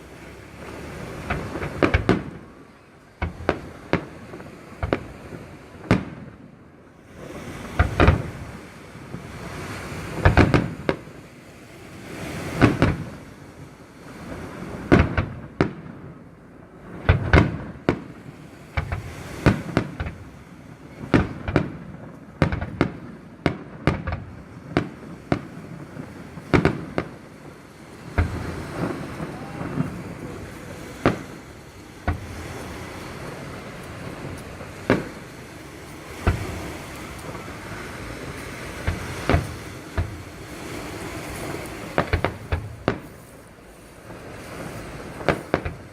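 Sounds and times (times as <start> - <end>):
fireworks bursting: 0.0 - 45.9
fireworks crackling: 0.0 - 45.9.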